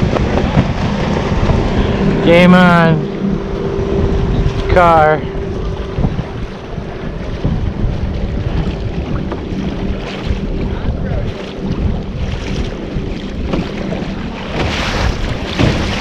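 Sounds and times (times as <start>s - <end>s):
motor engine humming: 0.0s - 16.0s
wind buffeting microphone: 0.0s - 16.0s.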